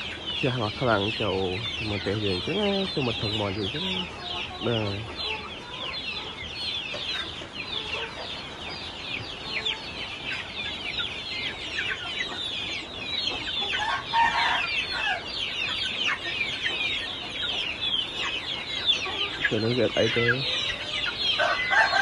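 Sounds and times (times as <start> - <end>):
chicks peeping: 0.0 - 22.0
lower chicken calls: 0.0 - 22.0.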